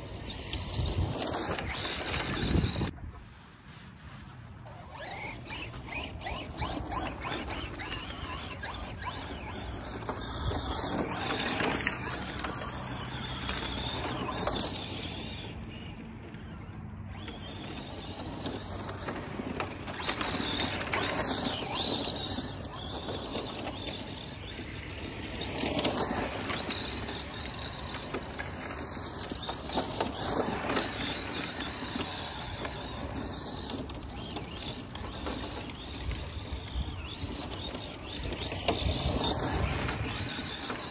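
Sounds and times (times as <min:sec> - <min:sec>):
rc truck electric motor: 0:00.0 - 0:03.0, 0:04.6 - 0:40.9
tyres scrabbling on dirt: 0:00.0 - 0:03.0, 0:04.6 - 0:40.9.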